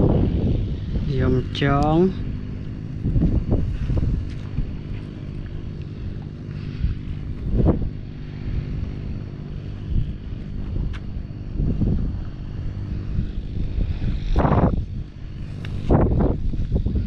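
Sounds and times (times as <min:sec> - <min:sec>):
engine droning: 0:00.0 - 0:17.0
wind rumbling on microphone: 0:00.0 - 0:17.0.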